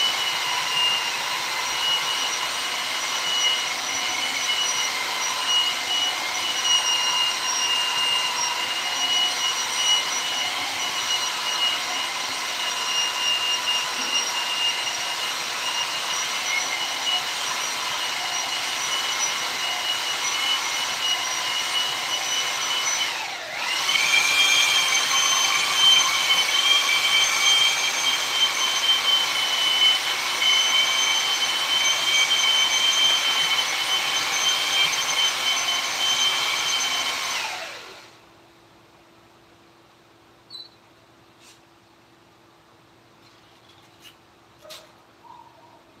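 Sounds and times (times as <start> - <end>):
power tool motor whine: 0.0 - 38.2.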